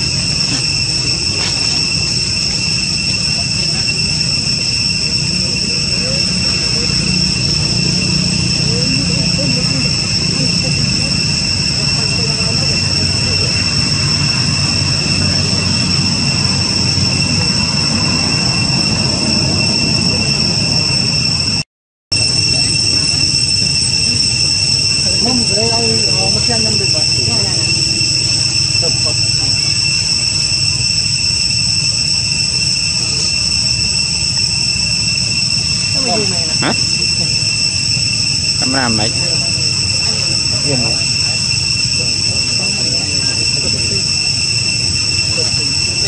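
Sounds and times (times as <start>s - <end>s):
shrill insect chorus: 0.0s - 46.0s.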